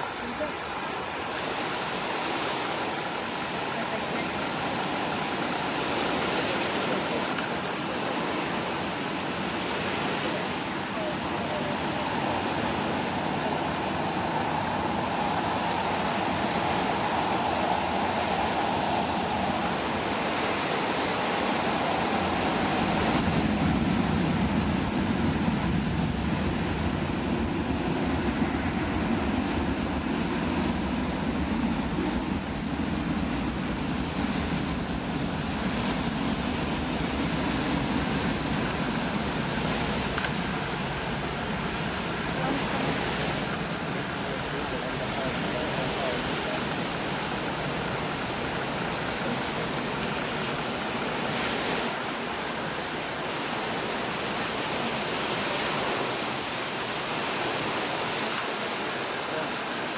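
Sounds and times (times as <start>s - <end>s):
wind noise on microphone: 0.0s - 59.0s
jet engines rumbling: 0.0s - 59.9s.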